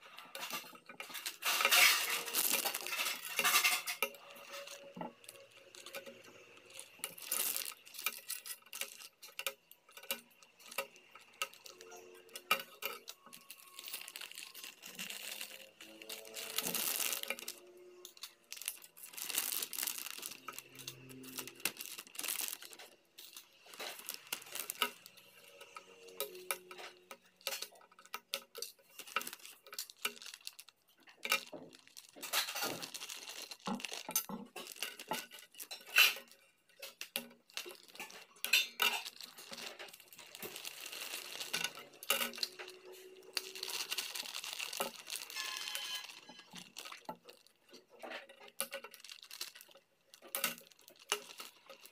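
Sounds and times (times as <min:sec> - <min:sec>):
plastic bag crinkling: 0:00.0 - 0:51.9
plastic parts clicking: 0:00.1 - 0:51.9.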